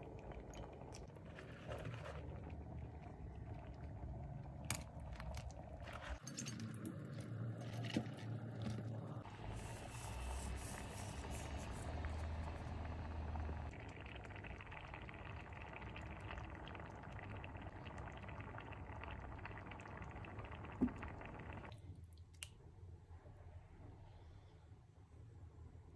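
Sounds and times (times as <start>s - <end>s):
stew bubbling in pot: 0.0s - 21.7s.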